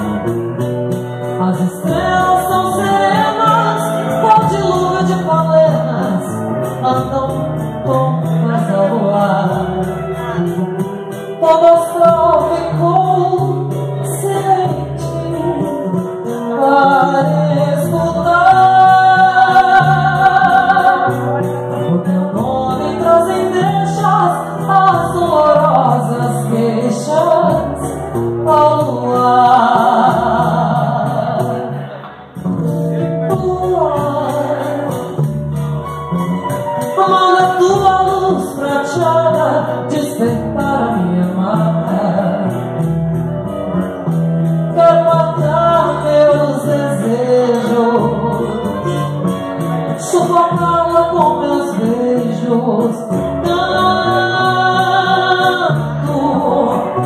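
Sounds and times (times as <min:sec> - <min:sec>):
woman singing into a microphone: 0:00.0 - 0:43.0, 0:44.4 - 0:57.0
guitar: 0:00.0 - 0:57.0
pandeiro: 0:00.0 - 0:57.0.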